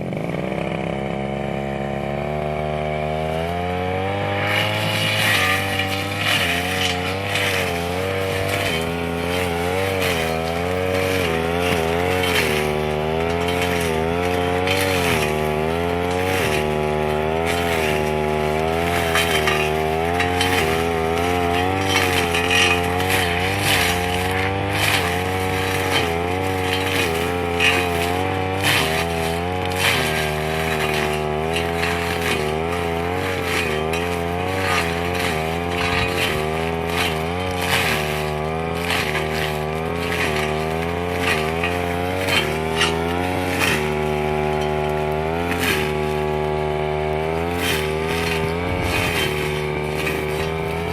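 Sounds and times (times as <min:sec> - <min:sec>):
brush cutter engine running: 0:00.0 - 0:50.9
blade swishing through grass: 0:03.0 - 0:50.9.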